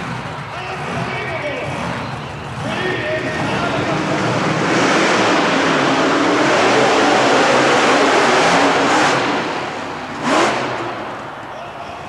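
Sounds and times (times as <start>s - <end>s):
monster truck engines revving: 0.0s - 12.0s.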